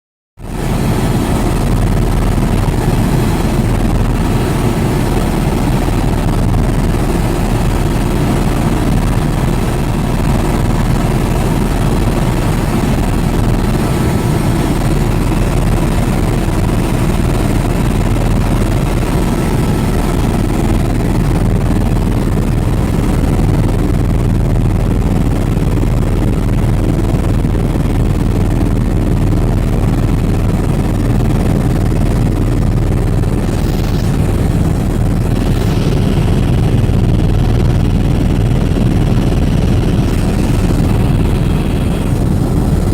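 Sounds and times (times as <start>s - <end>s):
helicopter rotor and engine: 0.4s - 42.9s.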